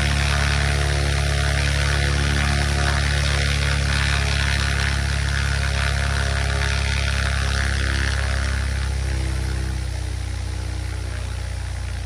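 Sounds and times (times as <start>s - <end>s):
light aircraft engine running: 0.0s - 12.0s.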